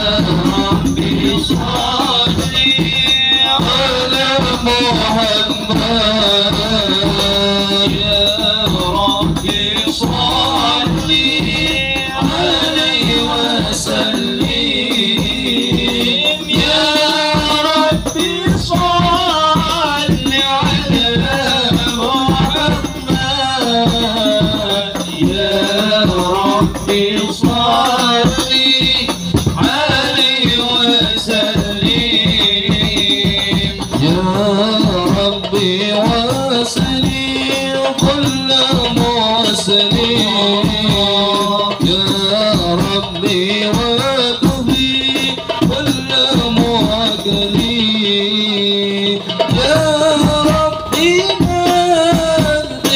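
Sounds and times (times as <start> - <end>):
hand-drum beats: 0.0 - 52.9
tambourine jingling: 0.0 - 52.9
voices singing devotional melody: 0.0 - 52.9.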